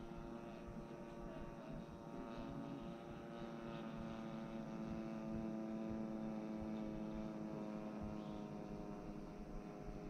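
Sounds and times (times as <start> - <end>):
model airplane engine drone: 0.0 - 10.0.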